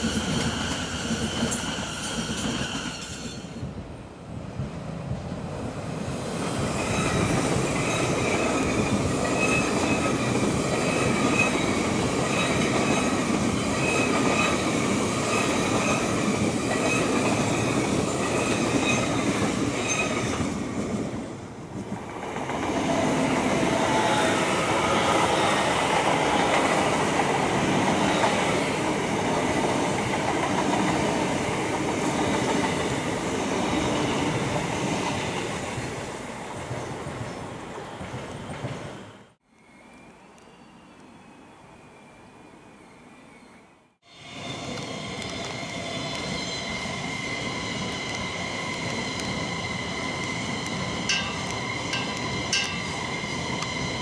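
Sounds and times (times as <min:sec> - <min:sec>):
departing train: 0:00.0 - 0:54.0
train running past: 0:00.0 - 0:54.0.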